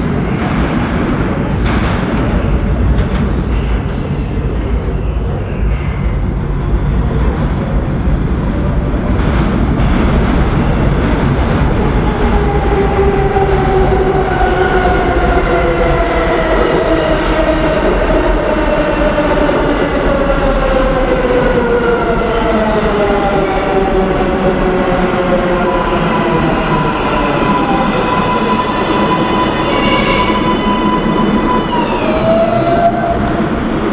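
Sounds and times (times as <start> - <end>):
wheels rumbling on rail: 0.0 - 33.9.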